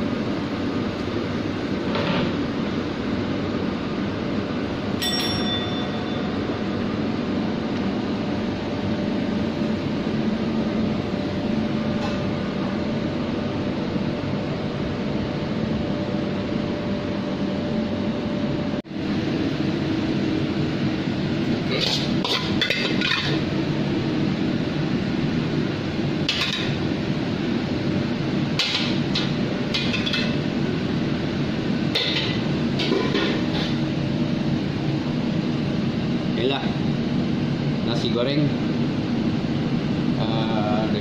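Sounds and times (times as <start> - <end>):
kitchen ventilation drone: 0.0 - 41.0.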